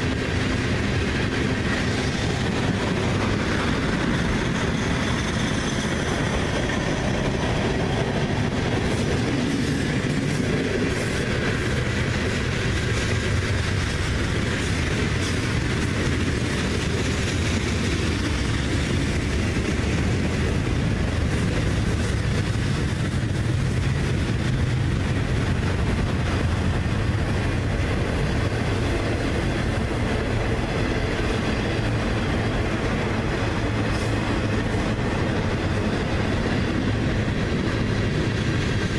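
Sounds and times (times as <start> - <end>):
train clicks: 0.0 - 38.9
train wheels rumbling on rails: 0.0 - 38.9.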